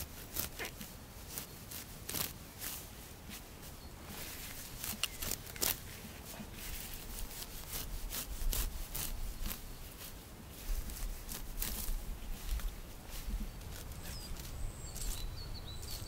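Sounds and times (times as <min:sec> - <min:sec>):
sickle cutting grass: 0:00.0 - 0:16.0.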